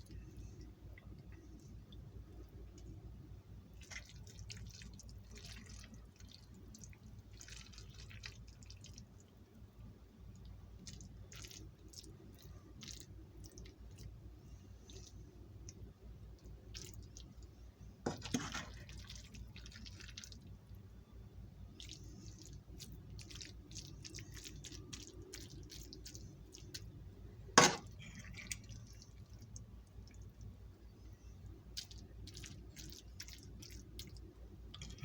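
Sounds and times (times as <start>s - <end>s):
soft wet chewing: 0.0s - 20.9s, 21.6s - 35.0s
low steady hum: 0.0s - 35.0s.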